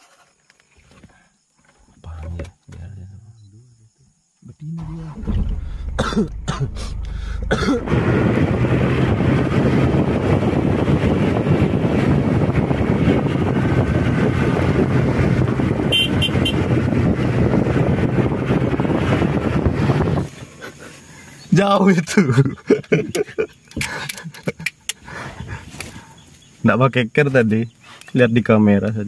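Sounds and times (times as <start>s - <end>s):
vehicle engine and road noise: 0.0s - 3.8s, 4.4s - 29.0s.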